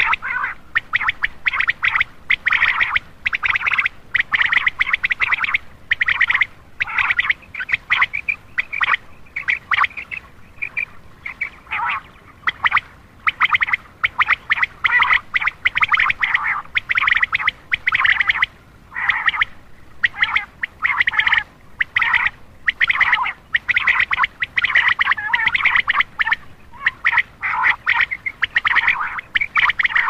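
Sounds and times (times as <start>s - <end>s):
quail chattering calls: 0.0s - 30.0s.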